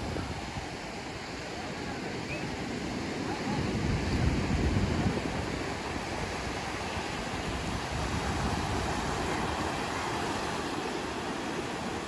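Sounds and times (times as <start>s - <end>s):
surf breaking on sandy beach: 0.0s - 12.0s.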